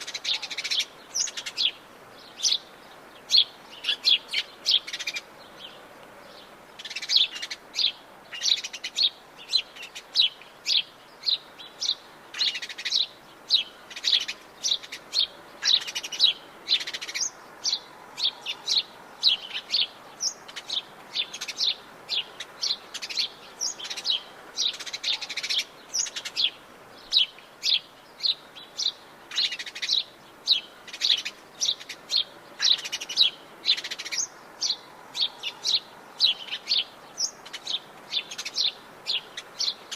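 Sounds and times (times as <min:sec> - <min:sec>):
birds chirping: 0:00.0 - 0:39.9
faint steady hiss: 0:00.0 - 0:39.9.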